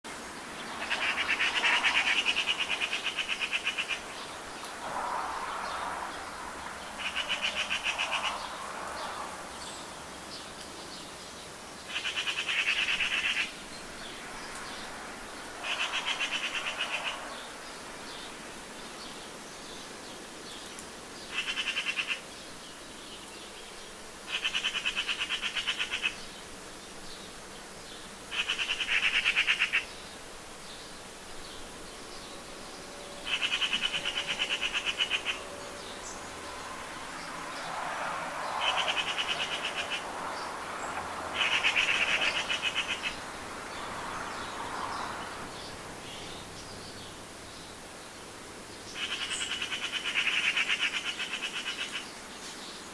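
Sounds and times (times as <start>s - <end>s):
background hiss: 0.1s - 52.9s.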